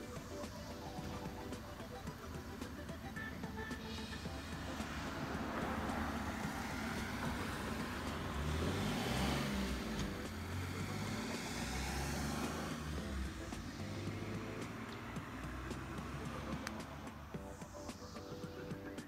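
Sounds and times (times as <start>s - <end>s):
car passing by: 0.0s - 19.0s.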